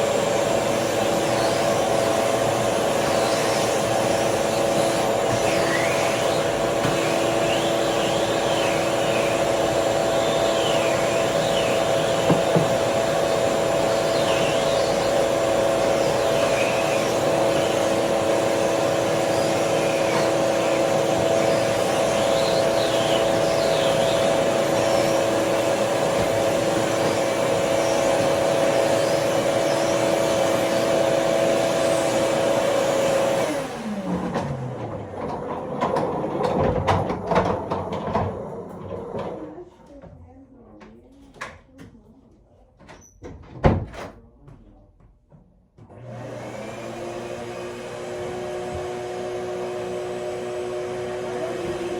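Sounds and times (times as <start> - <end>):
vacuum motor winding down: 0.0 - 39.6, 45.9 - 51.9
vacuum cleaner running: 0.0 - 39.7, 45.8 - 51.9.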